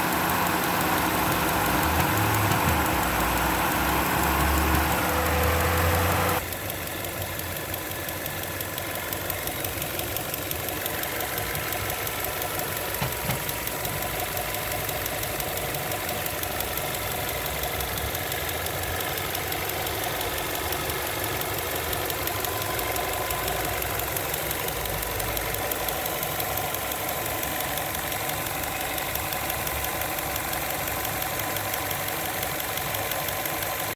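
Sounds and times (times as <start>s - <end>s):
car engine idling: 0.0s - 33.9s
fast steady engine ticking: 0.0s - 33.9s.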